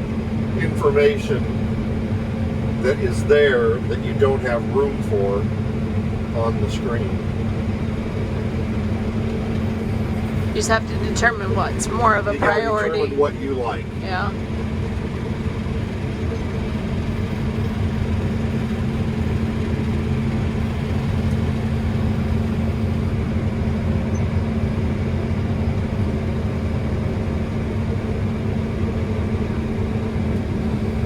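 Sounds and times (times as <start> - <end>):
combine harvester droning: 0.0 - 31.0.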